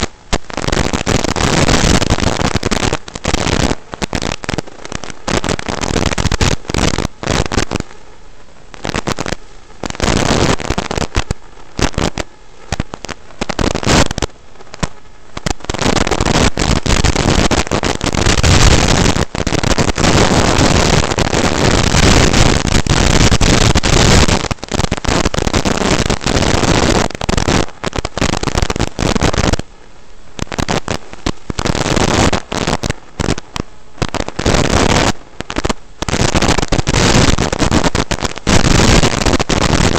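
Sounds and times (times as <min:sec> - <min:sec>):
static hiss and crackle: 0:00.0 - 0:39.9.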